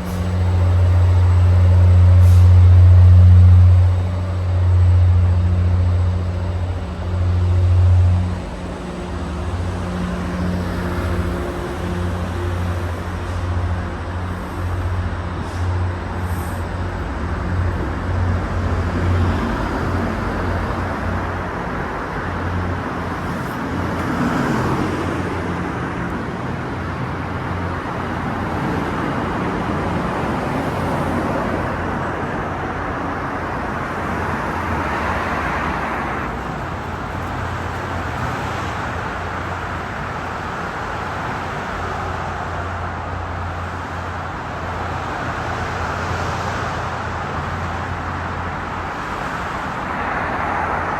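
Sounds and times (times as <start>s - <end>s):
vehicle noise: 0.0s - 50.9s.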